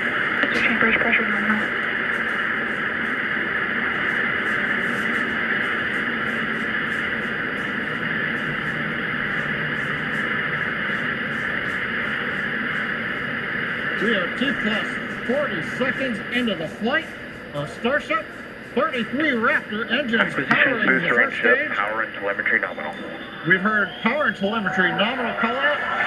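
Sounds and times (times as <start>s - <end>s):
rocket engines roaring: 0.0s - 26.0s.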